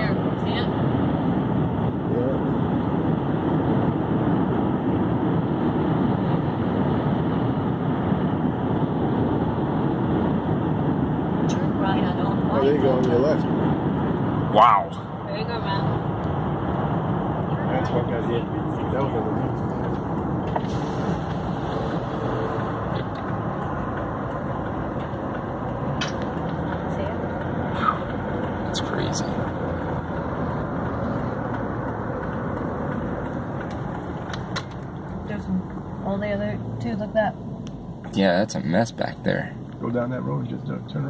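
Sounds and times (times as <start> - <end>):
car road and wind noise: 0.0 - 41.0.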